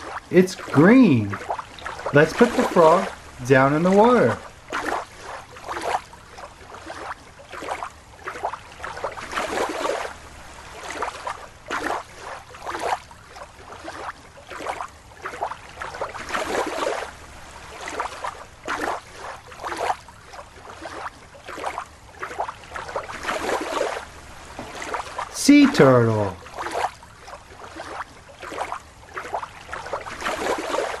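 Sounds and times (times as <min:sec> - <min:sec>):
water sloshing and splashing: 0:00.0 - 0:31.0.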